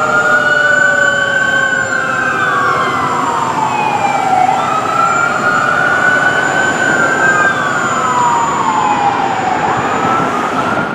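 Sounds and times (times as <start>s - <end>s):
engine and road noise: 0.0s - 10.9s
fire engine siren wailing: 0.0s - 10.9s.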